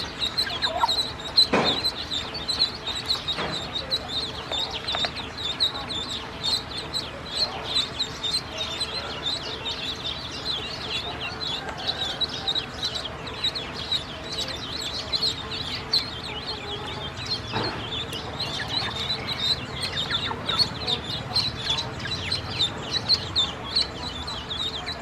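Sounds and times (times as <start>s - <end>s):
ducklings peeping: 0.0s - 25.0s.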